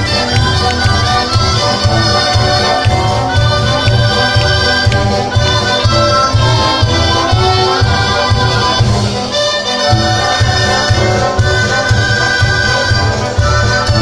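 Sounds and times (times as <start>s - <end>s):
band playing lively dance tune: 0.0s - 14.0s.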